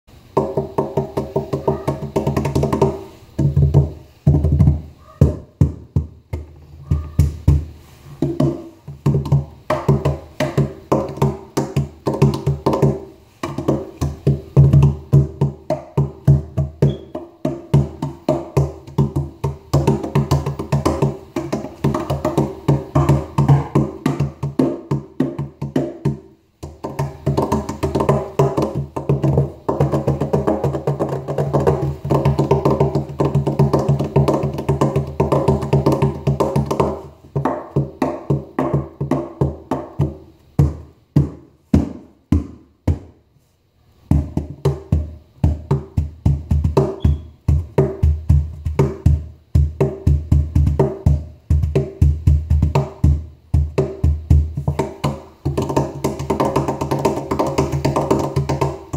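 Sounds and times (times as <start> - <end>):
hand drum slaps and taps: 0.3 - 43.2, 44.1 - 58.9.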